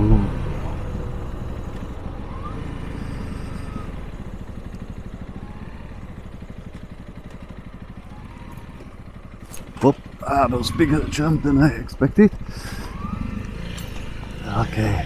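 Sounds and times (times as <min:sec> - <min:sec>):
motorcycle engine slowing: 0:00.0 - 0:15.0.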